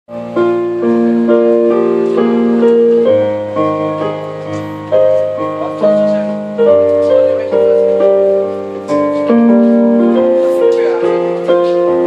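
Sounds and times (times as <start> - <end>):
piano keyboard ballad: 0.1 - 12.0.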